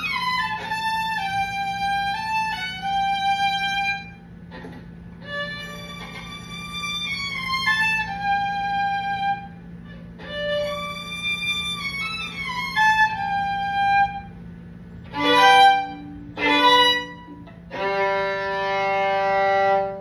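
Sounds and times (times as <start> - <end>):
solo violin playing: 0.0 - 4.3, 5.2 - 14.4, 15.0 - 20.0.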